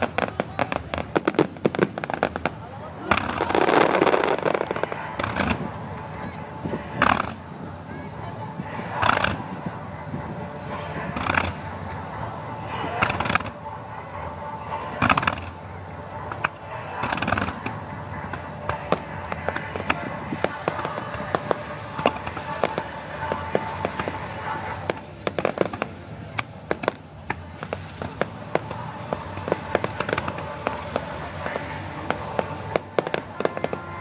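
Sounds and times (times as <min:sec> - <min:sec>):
fireworks bursting and crackling: 0:00.0 - 0:34.0
music playing: 0:00.0 - 0:34.0.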